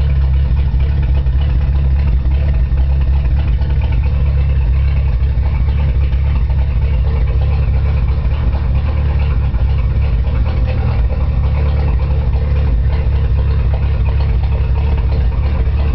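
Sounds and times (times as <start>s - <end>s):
loud car engine idling: 0.0s - 15.9s.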